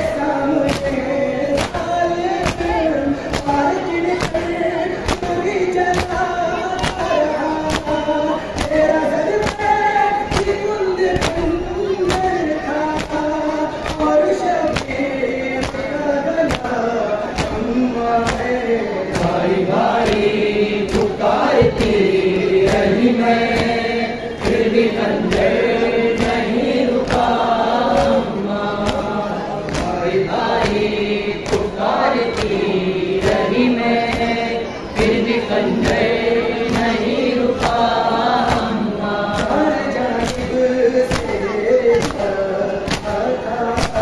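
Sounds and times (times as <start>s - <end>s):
men chanting a lament: 0.0s - 44.0s.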